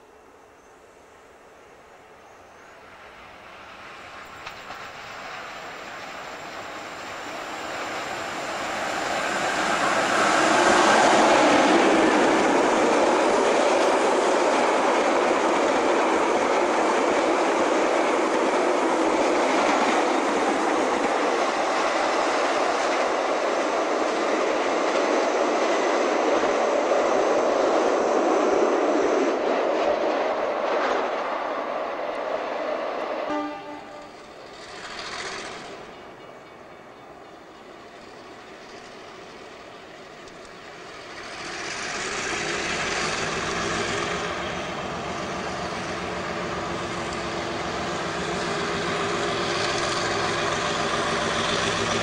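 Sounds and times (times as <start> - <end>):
passenger train passing at speed: 0.0 - 52.0.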